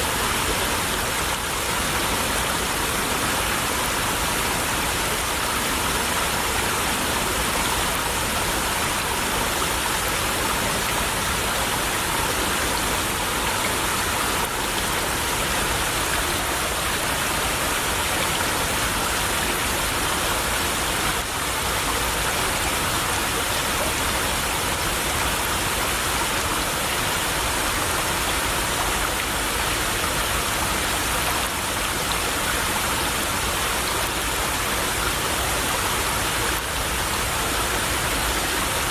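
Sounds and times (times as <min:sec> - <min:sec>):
small stream babbling: 0:00.0 - 0:38.9.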